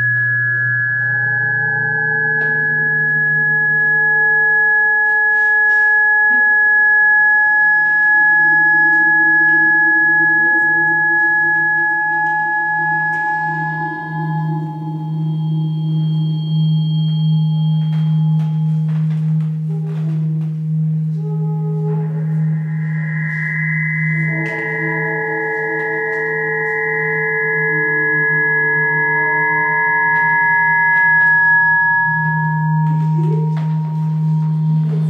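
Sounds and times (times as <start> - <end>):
acoustic feedback tones: 0.0 - 35.0
low hum: 0.0 - 35.0.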